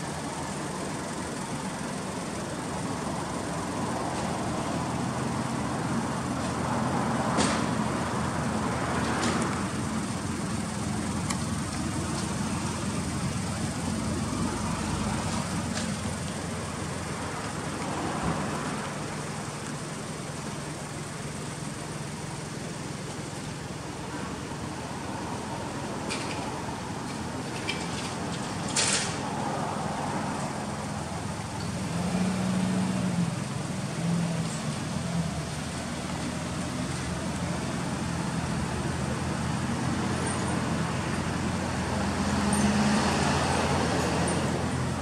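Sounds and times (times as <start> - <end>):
road traffic noise: 0.0 - 45.0.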